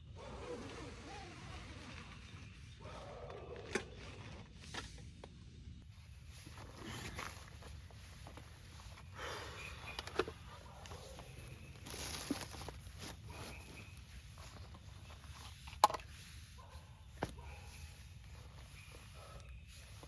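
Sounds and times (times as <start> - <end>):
rustling and handling noises: 3.6 - 20.0.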